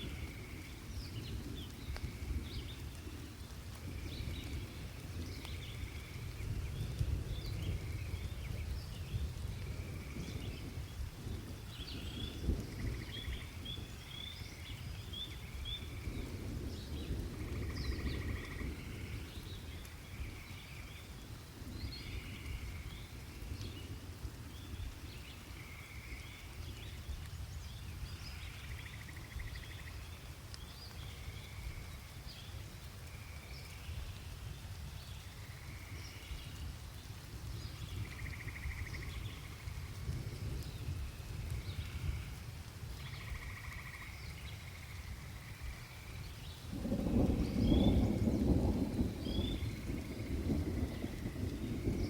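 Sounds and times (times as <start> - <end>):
light rain: 0.0 - 52.0.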